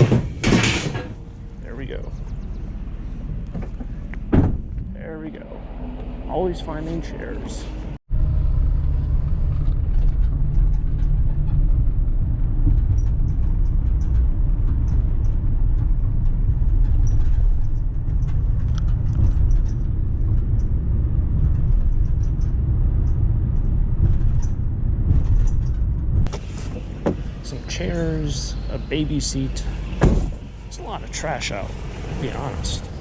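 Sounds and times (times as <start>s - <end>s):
vehicle engine and road rumble: 0.0s - 33.0s.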